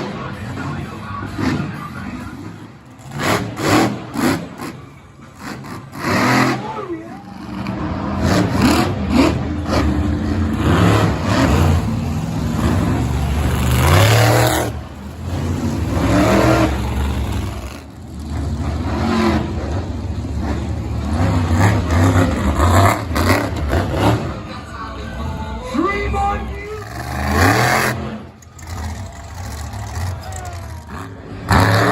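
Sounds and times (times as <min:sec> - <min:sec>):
monster truck engine revving: 0:00.0 - 0:25.2, 0:26.0 - 0:31.9.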